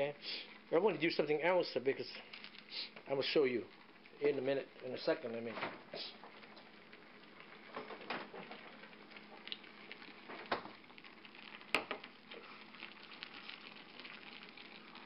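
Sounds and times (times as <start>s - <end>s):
soup simmering and bubbling: 0.0s - 15.0s.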